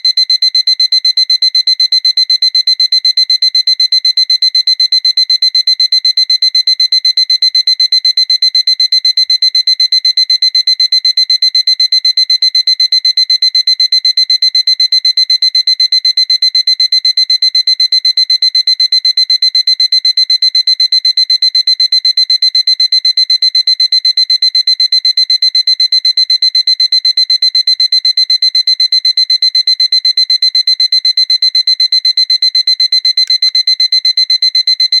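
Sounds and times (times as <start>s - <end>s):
electronic alarm clock beeping: 0.0s - 35.0s.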